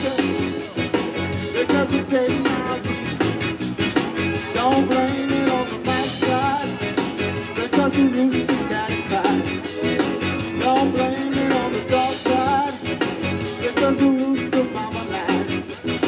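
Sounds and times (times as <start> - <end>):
person singing: 0.0 - 0.8, 1.4 - 3.1, 4.4 - 16.0
live band playing upbeat music: 0.0 - 16.0
rubboard scraping rhythm: 0.0 - 16.0.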